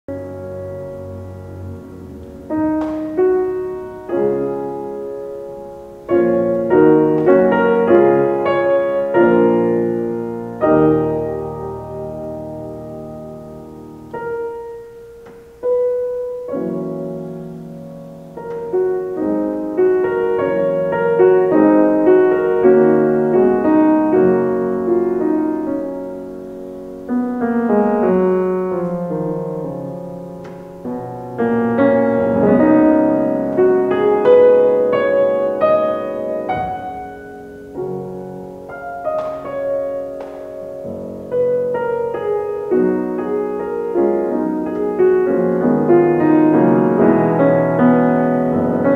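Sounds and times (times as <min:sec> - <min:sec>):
slow gentle piano piece: 0:00.1 - 0:48.9.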